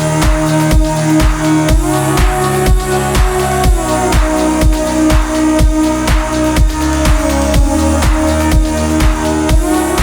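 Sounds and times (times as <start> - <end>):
electronic dance music: 0.0 - 10.0
kick drum: 0.0 - 10.0.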